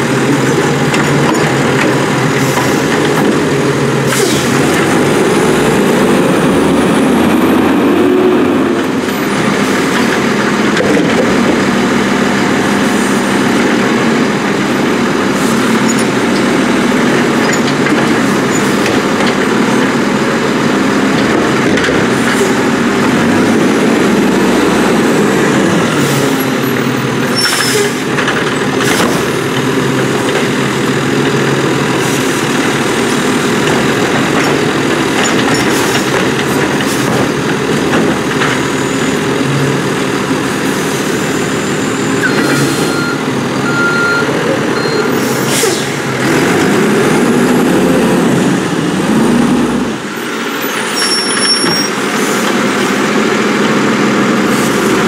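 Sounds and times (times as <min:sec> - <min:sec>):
garbage truck engine running: 0:00.0 - 0:55.0
side arm dumping garbage carts: 0:00.0 - 0:55.0.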